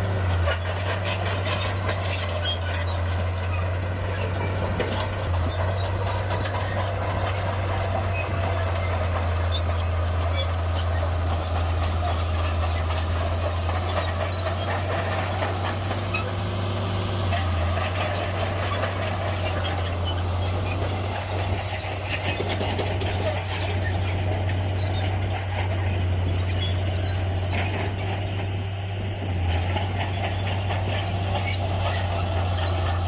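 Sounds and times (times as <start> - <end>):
diesel engine droning: 0.0 - 33.0
faint metallic ticks and squeaks: 0.1 - 33.0.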